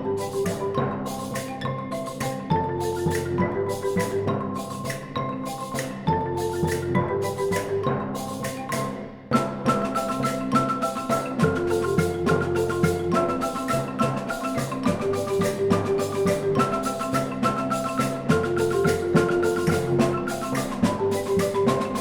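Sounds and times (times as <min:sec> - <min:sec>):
mallet percussion melody: 0:00.0 - 0:22.0
steady beat of struck notes: 0:00.0 - 0:22.0.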